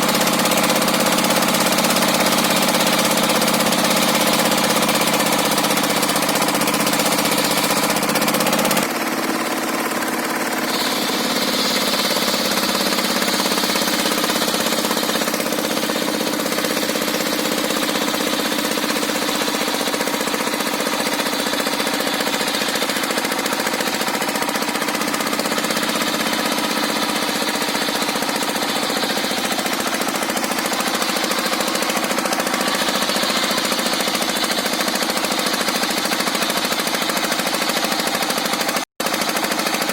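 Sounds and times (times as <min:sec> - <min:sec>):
high whine of saw blade: 0:00.0 - 0:39.9
sawmill engine labouring: 0:00.0 - 0:39.9.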